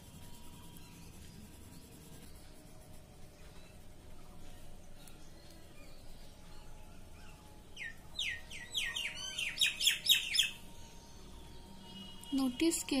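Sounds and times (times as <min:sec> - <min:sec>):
songbird chirps: 0:00.0 - 0:13.0.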